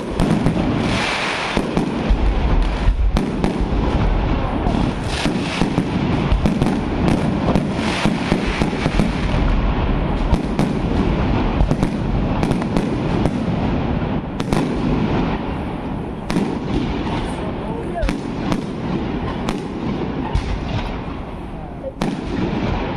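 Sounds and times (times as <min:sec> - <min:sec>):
fireworks bangs: 0:00.0 - 0:22.9
fireworks crackling: 0:00.0 - 0:22.9.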